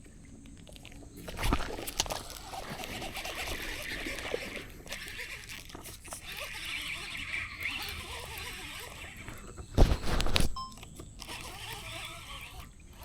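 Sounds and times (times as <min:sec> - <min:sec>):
fish splashing and thrashing: 0:00.2 - 0:13.0.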